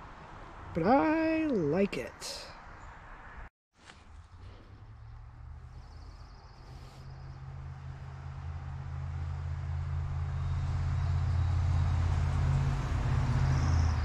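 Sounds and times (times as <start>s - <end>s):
vehicle engine rumble and road noise: 0.0s - 14.0s.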